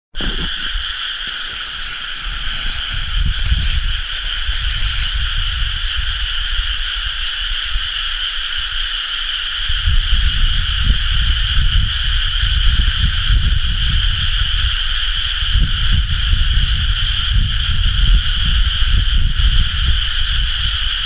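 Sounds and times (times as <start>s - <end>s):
frogs calling in chorus: 0.2s - 21.0s.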